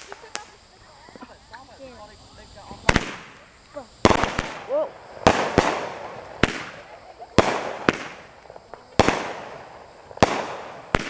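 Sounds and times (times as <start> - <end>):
fireworks bangs with hissing echo: 0.0 - 11.0.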